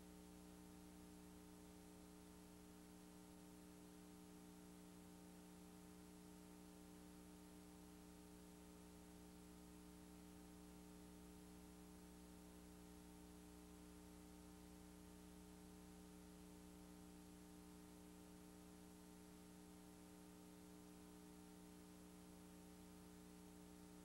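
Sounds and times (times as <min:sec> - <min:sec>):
faint electrical hum with hiss: 0:00.0 - 0:24.0.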